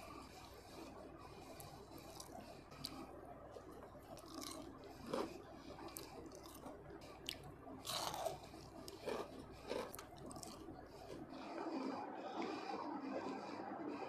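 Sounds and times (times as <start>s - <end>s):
chewing and crunching fried food: 0.0s - 14.0s.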